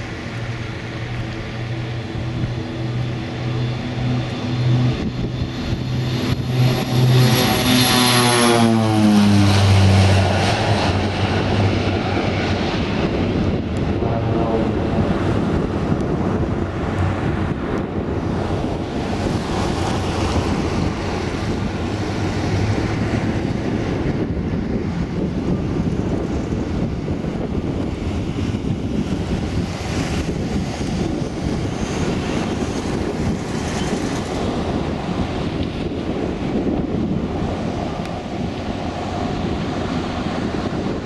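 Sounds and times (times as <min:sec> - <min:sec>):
distant turboprop aircraft rumble: 0:00.0 - 0:41.0
wind noise on microphone: 0:00.0 - 0:41.0.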